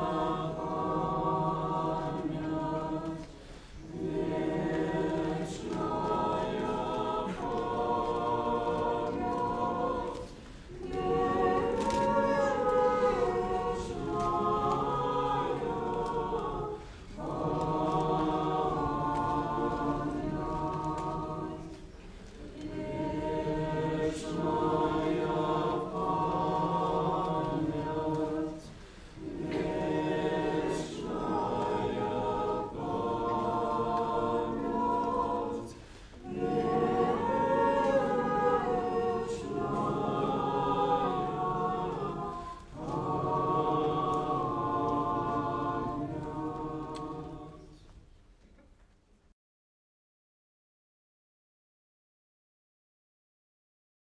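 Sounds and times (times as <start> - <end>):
church choir chanting: 0.0 - 48.0.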